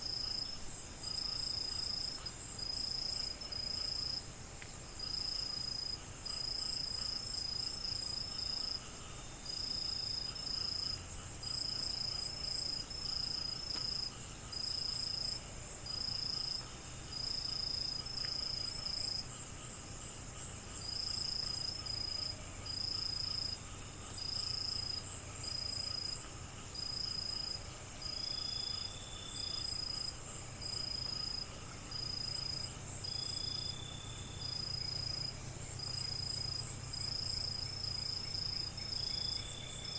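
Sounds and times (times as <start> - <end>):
cricket trilling in pulses: 0.0 - 4.3, 5.0 - 39.9
chorus of insects: 0.0 - 39.9.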